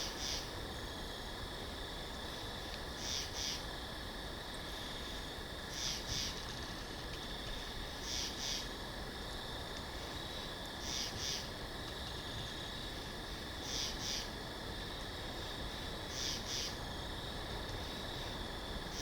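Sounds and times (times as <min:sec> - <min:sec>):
soft forest ambience hiss: 0:00.0 - 0:19.0.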